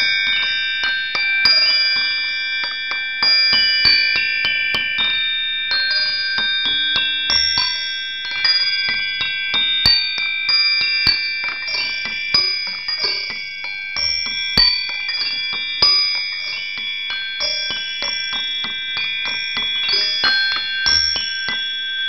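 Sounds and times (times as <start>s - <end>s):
chimes ringing: 0.0s - 22.0s.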